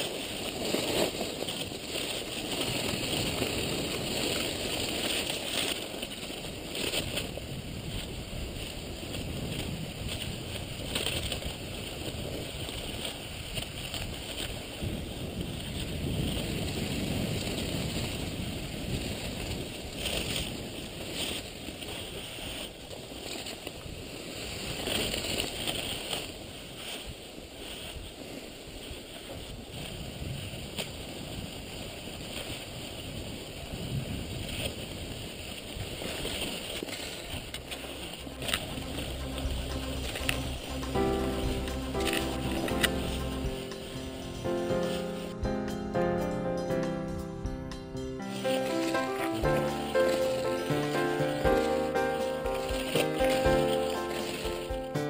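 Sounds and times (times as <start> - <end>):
skis swishing and scraping: 0.0 - 45.4, 48.2 - 55.0
wind rumble on microphone: 0.0 - 45.5.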